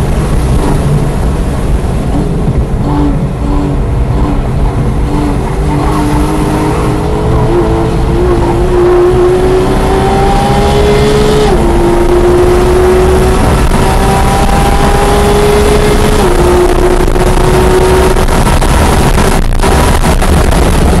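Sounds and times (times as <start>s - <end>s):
road and wind noise: 0.0s - 21.0s
sports car engine accelerating: 0.0s - 21.0s.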